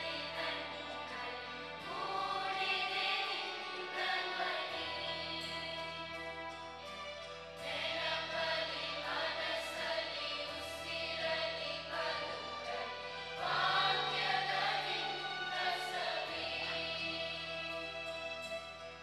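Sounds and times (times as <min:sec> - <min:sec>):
girls choir singing: 0:00.0 - 0:18.2.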